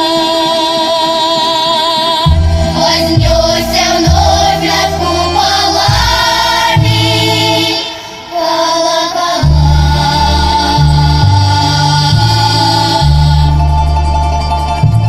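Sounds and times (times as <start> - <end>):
choir singing in harmony: 0.0 - 14.1
low held accompaniment notes: 2.3 - 15.0.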